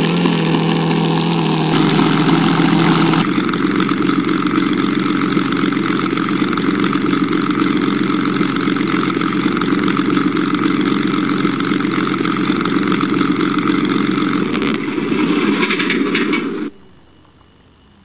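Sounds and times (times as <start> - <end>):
distorted engine sound from speakers: 0.0 - 18.0.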